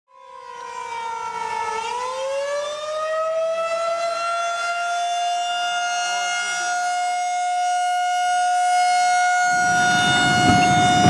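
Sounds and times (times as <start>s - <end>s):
warning siren wailing: 0.1s - 11.0s.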